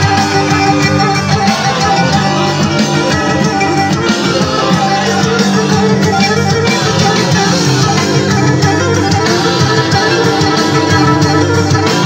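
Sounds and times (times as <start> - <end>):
plucked string instruments folk music: 0.0 - 12.0.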